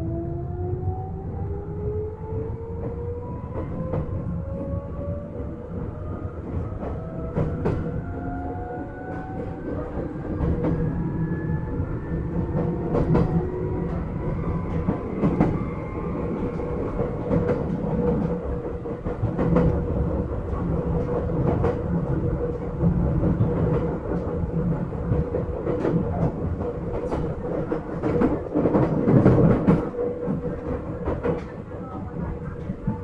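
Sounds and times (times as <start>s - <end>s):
train rumble and hum: 0.0s - 33.0s.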